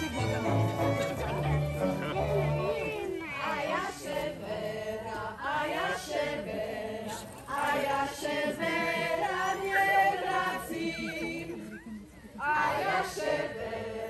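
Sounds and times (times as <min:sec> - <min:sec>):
mixed choir singing folk song: 0:00.0 - 0:14.0.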